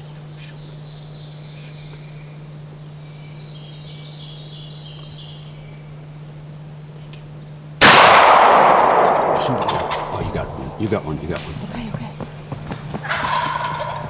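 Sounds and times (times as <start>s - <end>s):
songbirds chirping: 0.0s - 14.0s
steady low hum: 0.0s - 14.0s.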